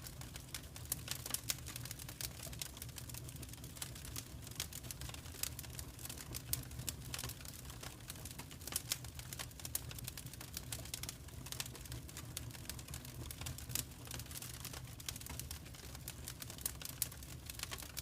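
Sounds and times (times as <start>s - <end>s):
fire low rumble: 0.0s - 18.0s
wood fire crackling: 0.0s - 18.0s.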